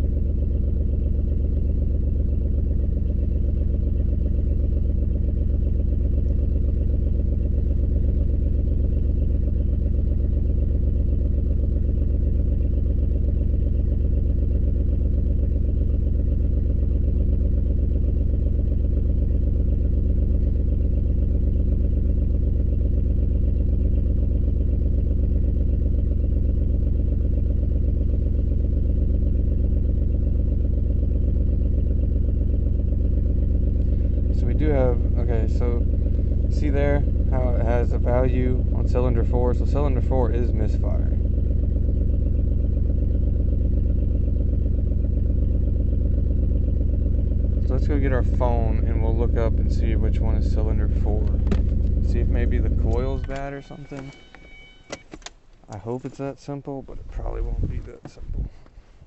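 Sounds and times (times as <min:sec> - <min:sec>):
car engine idling with misfire: 0:00.0 - 0:59.0.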